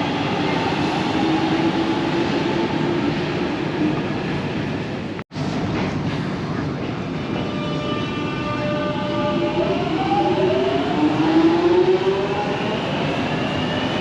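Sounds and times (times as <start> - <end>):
underground train rumble: 0.0 - 14.0.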